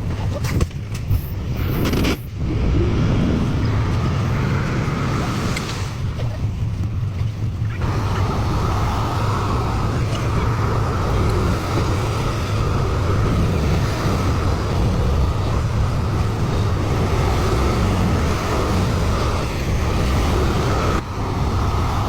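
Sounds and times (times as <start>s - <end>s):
excavator diesel engine rumbling: 0.0s - 22.0s.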